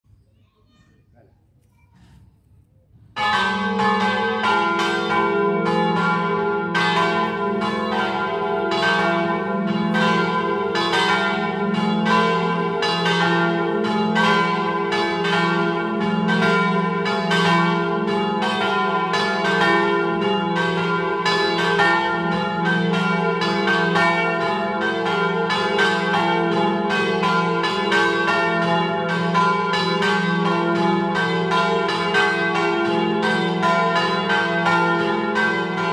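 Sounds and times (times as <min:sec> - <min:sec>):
church bells pealing: 0:03.1 - 0:35.9.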